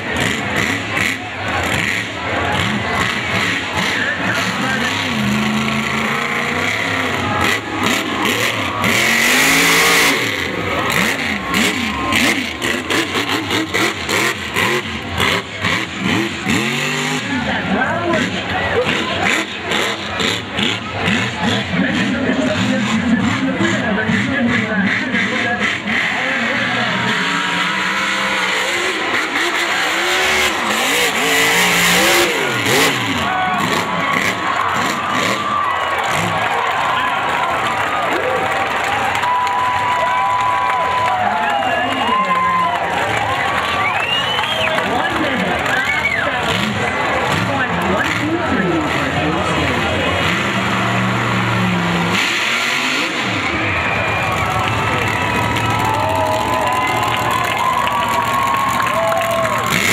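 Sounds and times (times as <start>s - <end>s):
loud rush of noise: 0.0s - 59.9s
truck engine revving: 0.0s - 59.9s.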